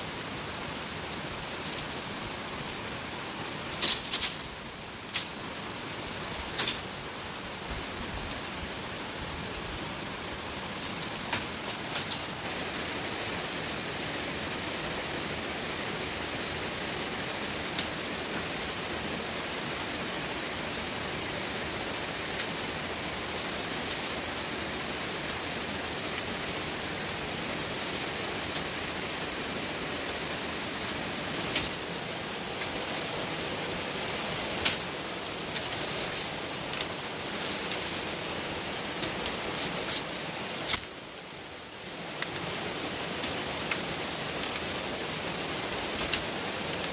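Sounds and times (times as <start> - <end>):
constant high-pitched tone: 0.0 - 46.9
outdoor ambient hiss: 0.0 - 46.9.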